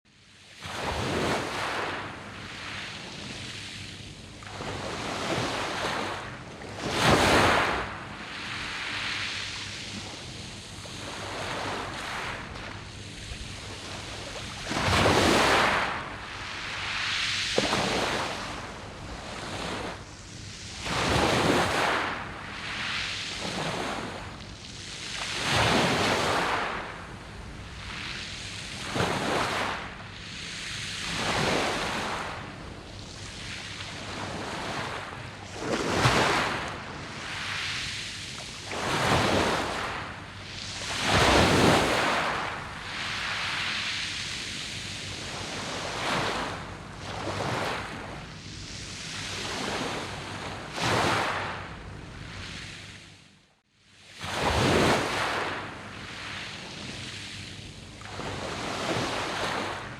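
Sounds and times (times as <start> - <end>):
waves breaking on pebble beach: 0.6 - 3.7, 4.4 - 24.3, 25.1 - 30.0, 30.7 - 48.2, 49.2 - 51.7, 54.2 - 56.9, 58.1 - 59.9.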